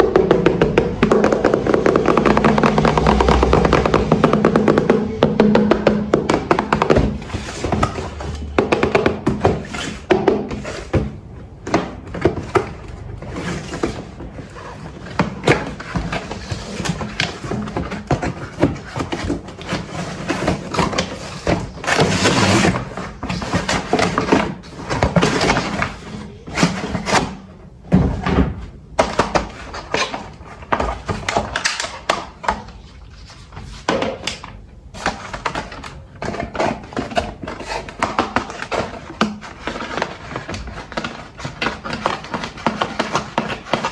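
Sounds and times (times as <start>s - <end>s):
packaging knocks and clicks: 0.0s - 27.4s, 33.8s - 43.9s.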